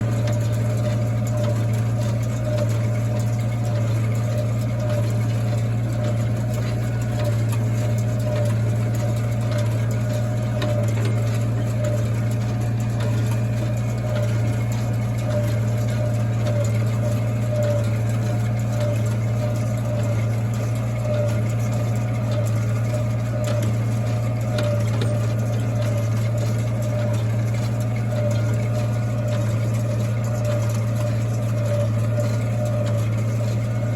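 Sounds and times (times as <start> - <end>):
hay baler running: 0.0 - 33.9
tractor running: 0.0 - 33.9.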